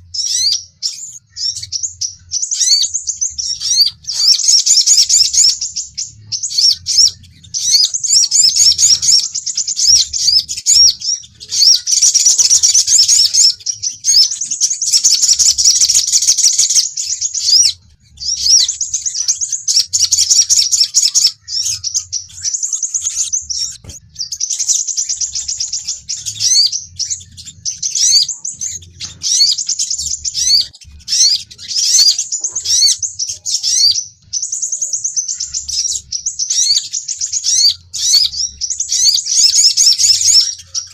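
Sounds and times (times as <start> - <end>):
high-pitched bird chirping and trilling: 0.0 - 40.9.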